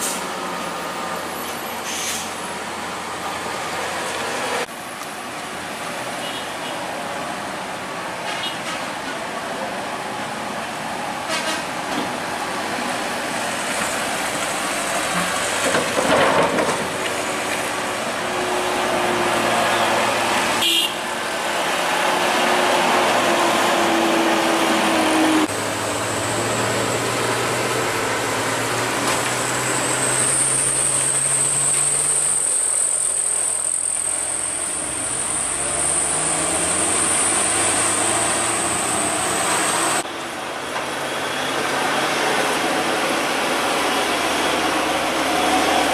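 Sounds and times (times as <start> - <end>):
traffic noise: 0.0 - 45.9
trucks passing on road: 0.0 - 45.9.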